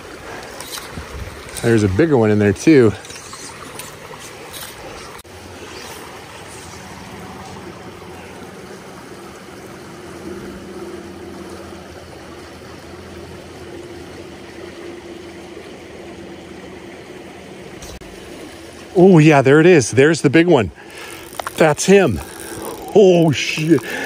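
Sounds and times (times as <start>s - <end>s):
steady low hum: 0.0s - 19.6s
shallow creek flowing: 0.0s - 24.0s.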